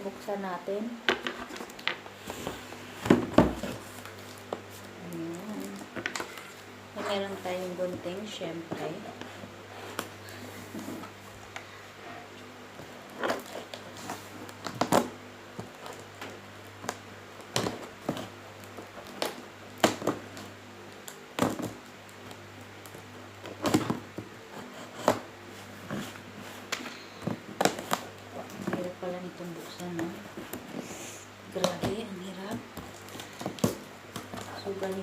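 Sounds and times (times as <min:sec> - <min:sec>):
steady low hum: 0:00.0 - 0:35.0
tape and cardboard crackling: 0:01.1 - 0:35.0.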